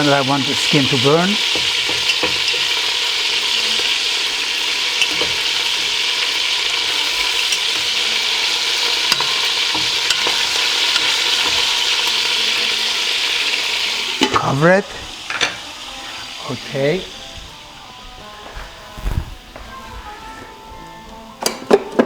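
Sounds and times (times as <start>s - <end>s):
chicken sizzling in hot oil: 0.0s - 19.6s
oil popping and crackling: 0.0s - 19.7s.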